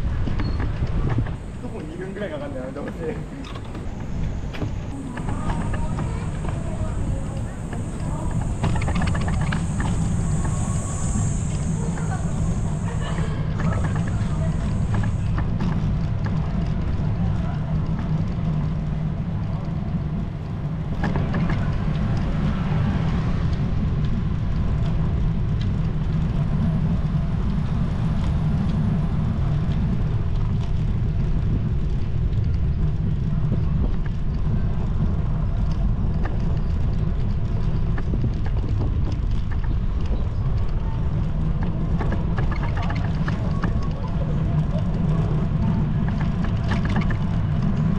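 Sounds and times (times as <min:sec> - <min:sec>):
faint street noise: 0:00.0 - 0:47.9
wind buffeting microphone: 0:00.0 - 0:47.9.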